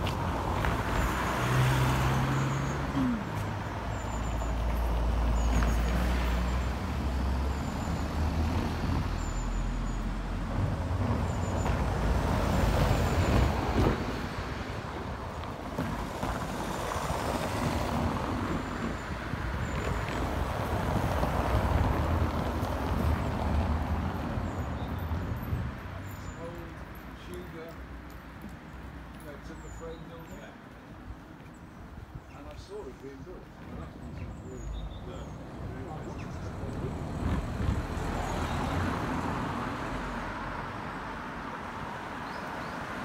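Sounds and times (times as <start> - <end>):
cars passing on cobbles: 0.0 - 43.0.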